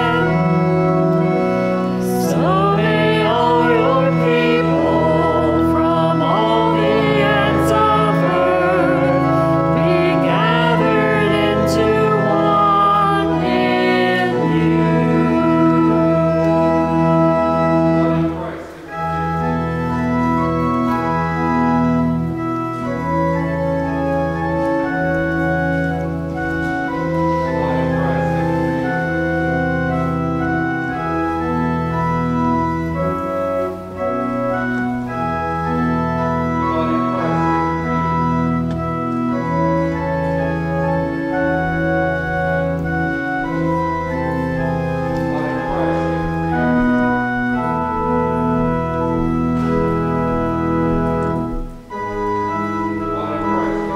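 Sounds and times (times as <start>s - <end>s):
organ playing sustained chords: 0.0s - 53.9s.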